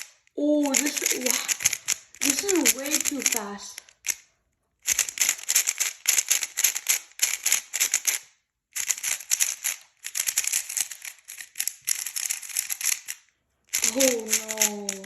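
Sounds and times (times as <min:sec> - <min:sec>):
puzzle cube plastic clicking: 0:00.0 - 0:15.0.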